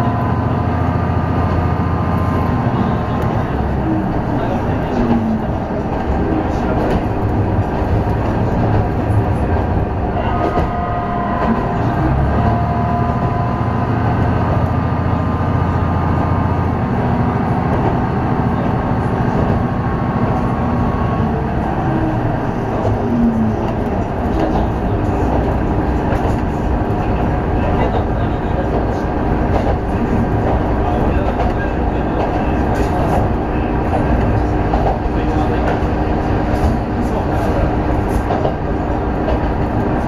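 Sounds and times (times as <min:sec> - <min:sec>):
diesel engine drone: 0:00.0 - 0:40.0.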